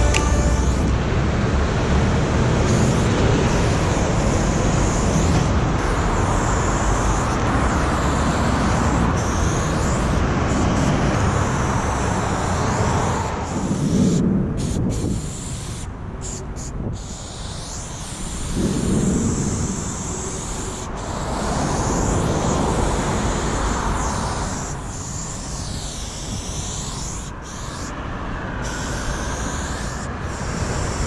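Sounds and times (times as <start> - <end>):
aerosol spray can hissing: 0.0 - 1.0, 2.6 - 27.9, 28.6 - 31.0
highway traffic: 0.0 - 31.0.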